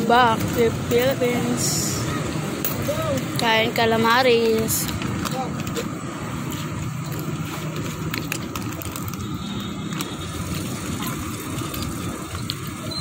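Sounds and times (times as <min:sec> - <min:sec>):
street noise: 0:00.0 - 0:13.0
vehicle engine running: 0:00.0 - 0:13.0.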